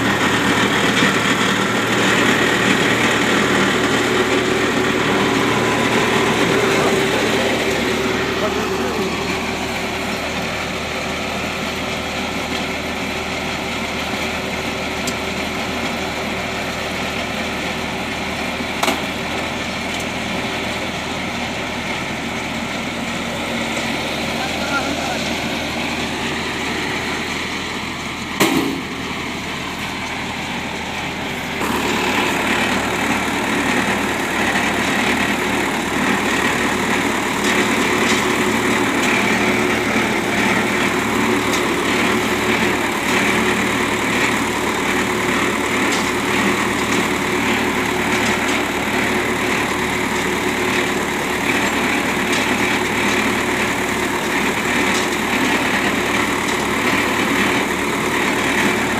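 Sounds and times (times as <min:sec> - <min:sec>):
baler machinery running: 0:00.0 - 0:58.9.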